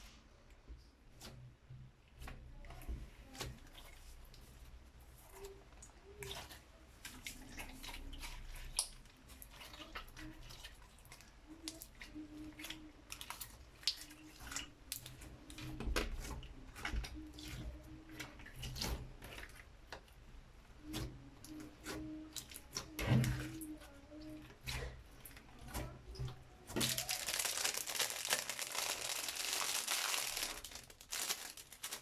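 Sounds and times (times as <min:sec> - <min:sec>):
slime squelching: 0:02.2 - 0:32.0.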